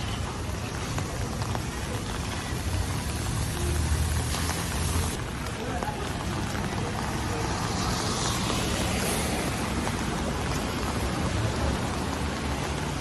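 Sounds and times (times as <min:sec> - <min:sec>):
low traffic rumble: 0:00.0 - 0:13.0
steady rain: 0:00.0 - 0:13.0
tyre hiss on wet road: 0:00.0 - 0:13.0.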